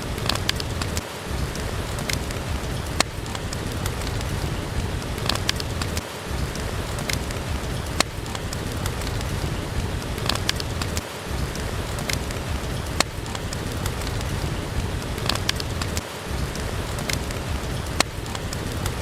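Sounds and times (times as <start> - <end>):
steady rain hiss: 0.0 - 19.0
wood fire crackling: 0.0 - 19.0.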